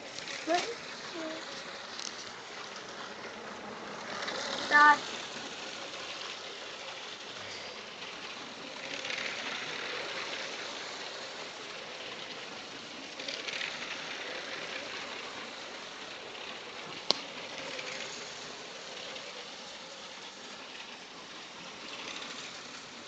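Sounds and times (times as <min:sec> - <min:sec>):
toy train running on plastic track: 0:00.0 - 0:23.0.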